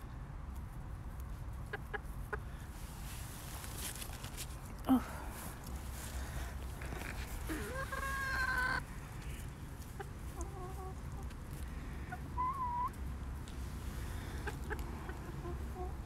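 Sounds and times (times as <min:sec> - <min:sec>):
young chickens calling: 0:01.6 - 0:04.6, 0:05.4 - 0:16.0.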